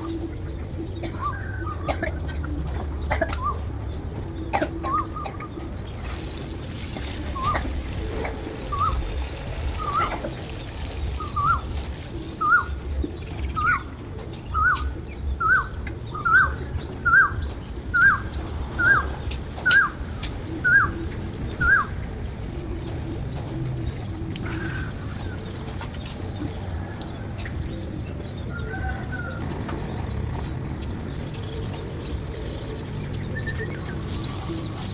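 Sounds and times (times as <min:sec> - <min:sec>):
low outdoor background: 0:00.0 - 0:34.9.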